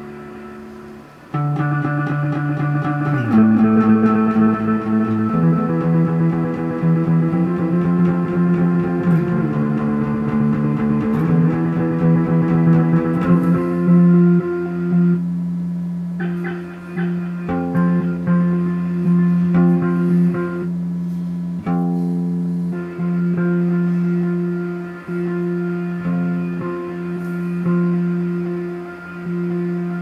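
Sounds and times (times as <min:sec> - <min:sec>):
electric guitar with effects: 0:00.0 - 0:30.0.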